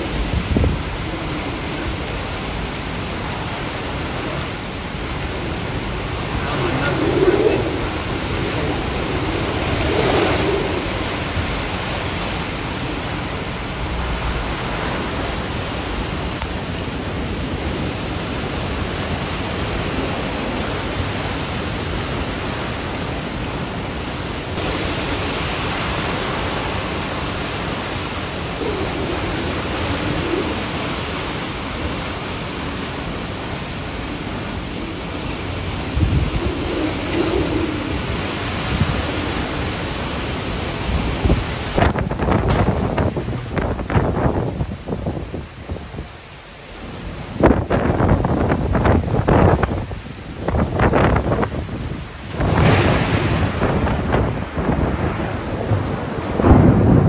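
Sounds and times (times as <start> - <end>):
wind and rain beating on car: 0.0 - 57.0.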